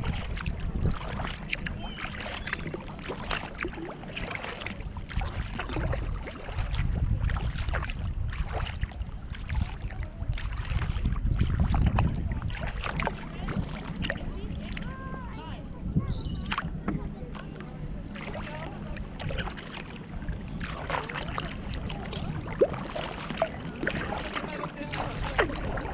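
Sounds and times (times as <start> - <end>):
paddle splashes and drips: 0.0 - 15.5, 16.4 - 25.9
wind rumbling on microphone: 0.0 - 25.9.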